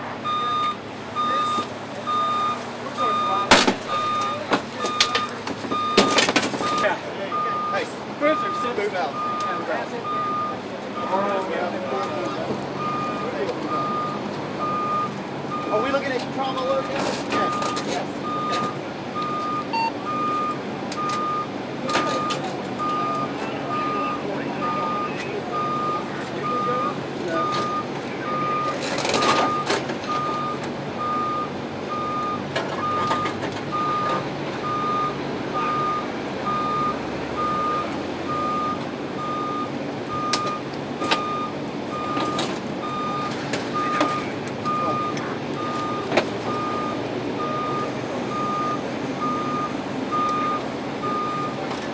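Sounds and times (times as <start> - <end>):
heavy vehicle engine idling: 0.0 - 51.9
back-up alarm beeping: 0.2 - 11.3, 12.8 - 16.0, 17.4 - 51.6.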